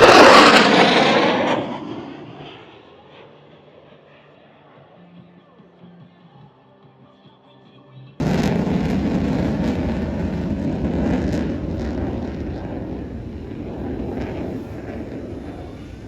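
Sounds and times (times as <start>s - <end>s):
aircraft flying past: 0.0s - 5.2s, 8.2s - 16.0s.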